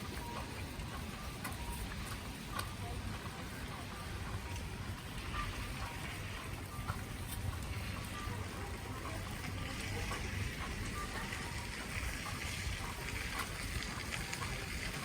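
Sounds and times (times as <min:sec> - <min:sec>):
faint drips and taps: 0:00.1 - 0:15.0.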